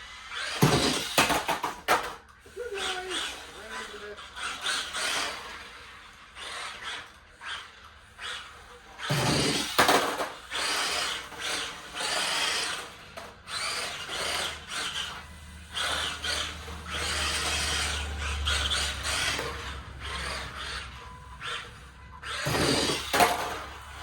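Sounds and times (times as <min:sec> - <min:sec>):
toy car electric motor whirring: 0:00.0 - 0:24.0.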